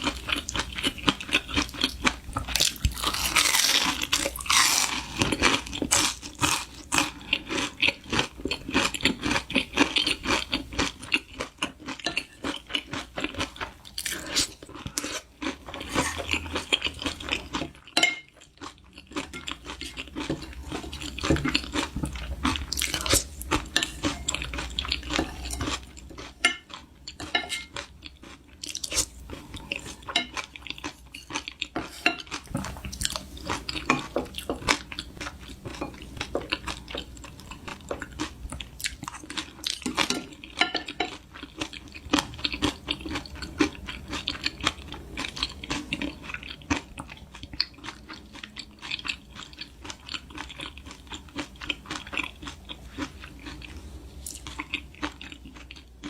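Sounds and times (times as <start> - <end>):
chewing crispy fried food: 0.0 - 56.0.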